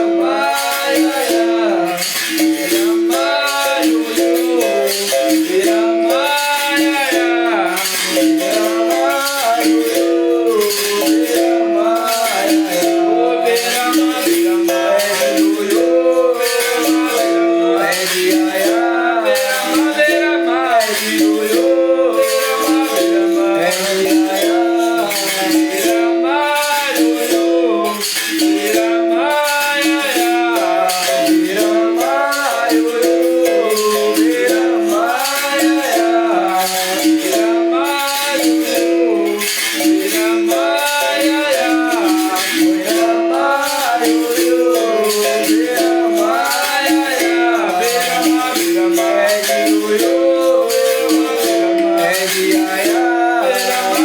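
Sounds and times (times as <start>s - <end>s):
person singing: 0.0s - 54.0s
shaken rattle: 0.0s - 54.0s.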